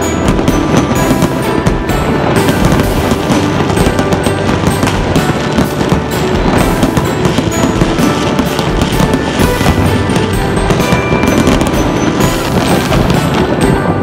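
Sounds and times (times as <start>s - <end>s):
fireworks bursting and crackling: 0.0s - 14.0s
music: 0.0s - 14.0s.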